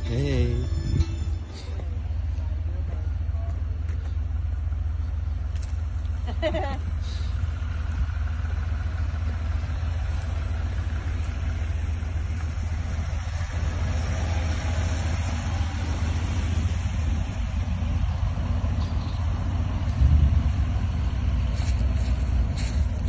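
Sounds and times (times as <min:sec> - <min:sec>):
engines rumbling at low speed: 0:00.0 - 0:23.0.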